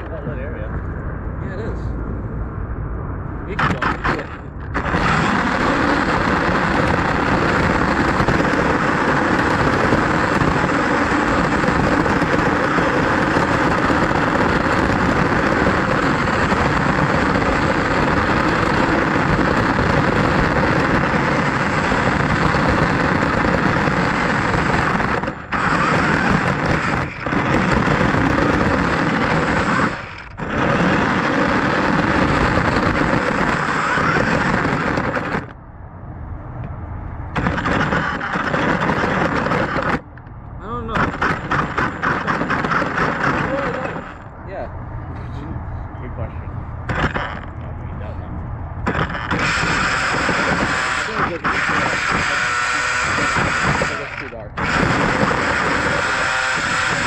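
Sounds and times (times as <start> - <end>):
rc car motor and tyres: 3.5 - 35.6, 37.3 - 44.3, 46.8 - 47.7, 48.8 - 57.0.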